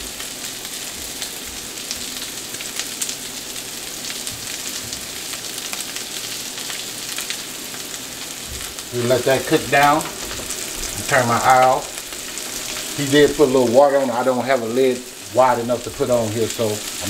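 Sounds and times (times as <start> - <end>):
meat and onions sizzling on griddle: 0.0 - 17.0.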